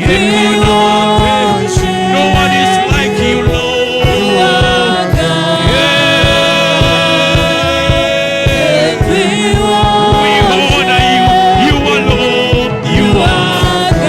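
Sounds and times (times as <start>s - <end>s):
gospel singing: 0.0s - 14.0s
repeating low beat: 0.0s - 14.0s.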